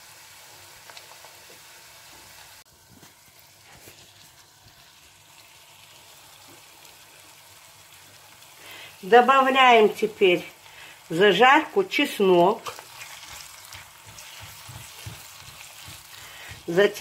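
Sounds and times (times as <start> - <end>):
onion sizzling in a frying pan: 0.0 - 17.0.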